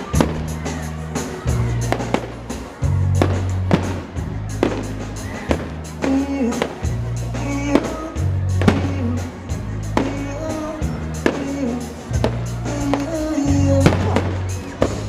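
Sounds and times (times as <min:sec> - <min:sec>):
fireworks bangs: 0:00.0 - 0:09.3, 0:09.9 - 0:15.0
loud music with heavy bass: 0:00.0 - 0:15.0
sung melody: 0:00.0 - 0:15.0.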